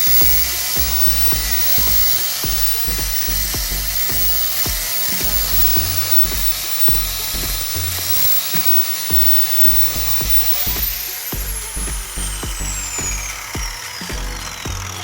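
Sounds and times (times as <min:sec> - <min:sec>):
background music with beat: 0:00.0 - 0:15.0
power grinder grinding steel: 0:00.0 - 0:15.0.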